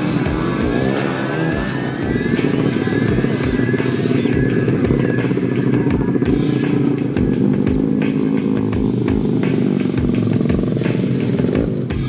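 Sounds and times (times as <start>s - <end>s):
background music with beat: 0.0s - 12.0s
dirt bike engines idling: 0.0s - 12.0s.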